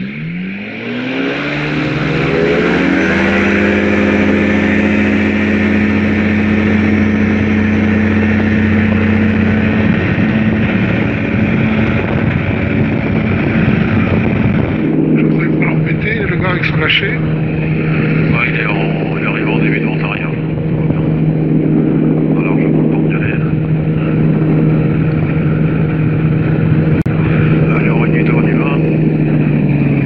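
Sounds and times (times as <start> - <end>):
microlight engine revving: 0.0 - 30.0.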